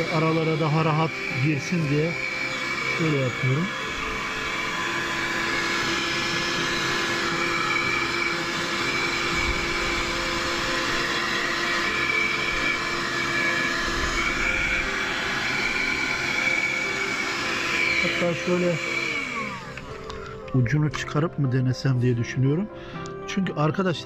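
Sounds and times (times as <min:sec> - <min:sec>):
handheld vacuum motor hum: 0:00.0 - 0:21.2.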